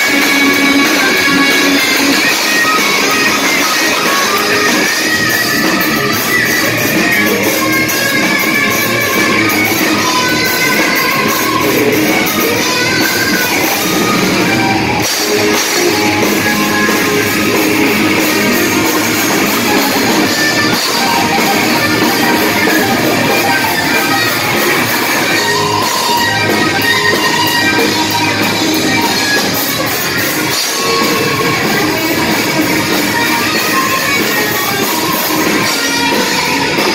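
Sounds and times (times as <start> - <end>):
bass guitar: 0.0 - 36.9
drums: 0.0 - 36.9
electric guitar lead: 0.0 - 36.9.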